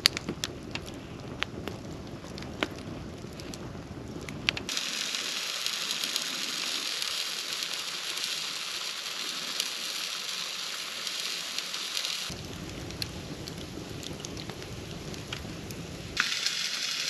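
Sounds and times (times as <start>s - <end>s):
campfire hissing and sizzling: 0.0s - 17.0s
faint fire pops: 0.0s - 17.0s.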